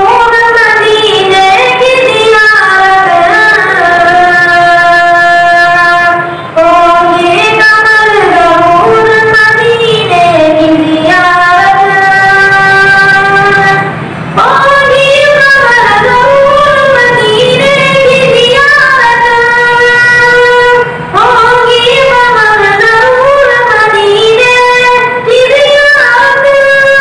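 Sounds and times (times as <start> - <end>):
boy singing into a microphone: 0.0 - 27.0.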